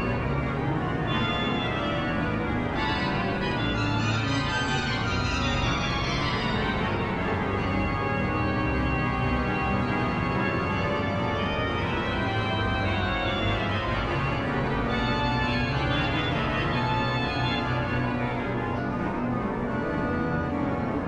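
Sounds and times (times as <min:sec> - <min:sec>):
pipe organ chords: 0:00.0 - 0:21.0.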